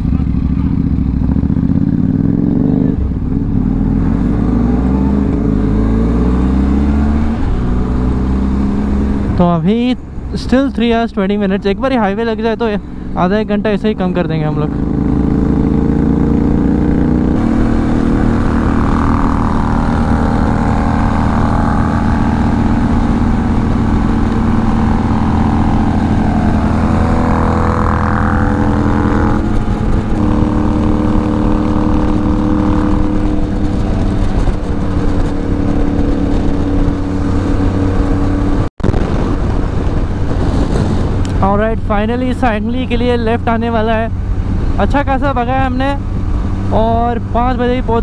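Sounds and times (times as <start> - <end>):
motorcycle engine running: 0.0 - 10.4, 12.9 - 48.0.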